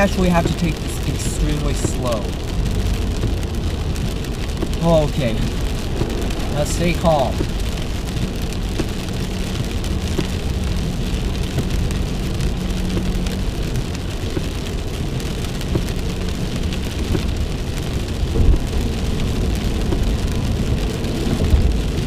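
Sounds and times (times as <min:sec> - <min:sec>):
car rumble and tyres on wet road: 0:00.0 - 0:22.0
heavy rain on a car: 0:00.0 - 0:22.0.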